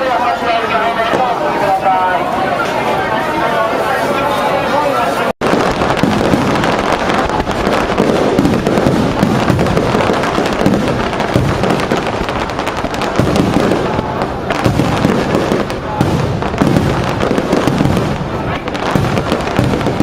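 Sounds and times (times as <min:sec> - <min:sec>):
fireworks popping and banging: 0:00.0 - 0:20.0.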